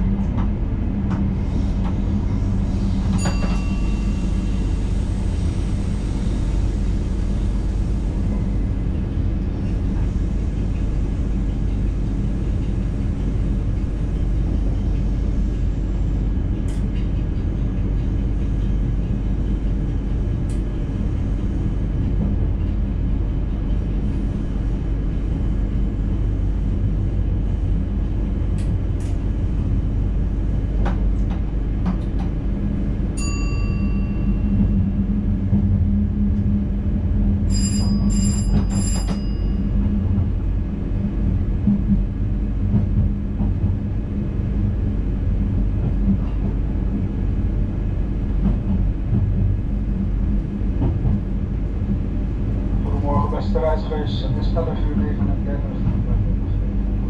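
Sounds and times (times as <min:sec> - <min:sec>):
train running low rumble: 0:00.0 - 0:57.0.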